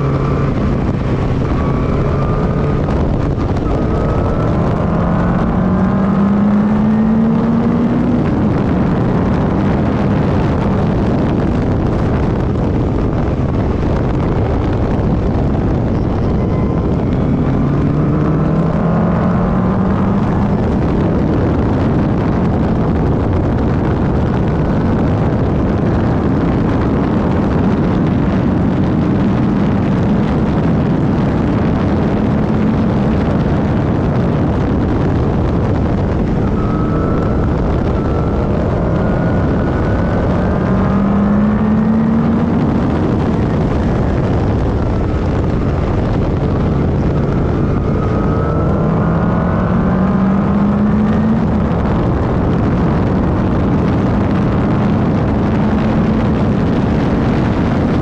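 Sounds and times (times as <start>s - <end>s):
racing car engine accelerating: 0.0s - 58.0s
wind and road noise: 0.0s - 58.0s.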